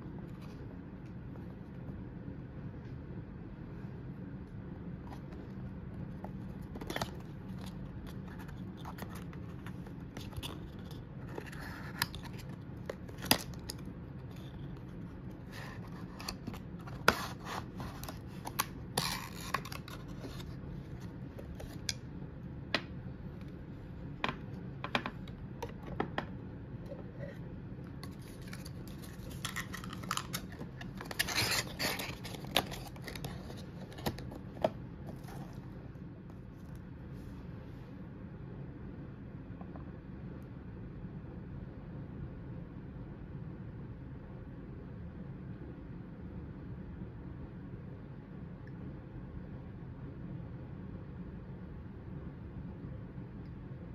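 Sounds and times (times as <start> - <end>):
faint low hum: 0.0 - 53.9.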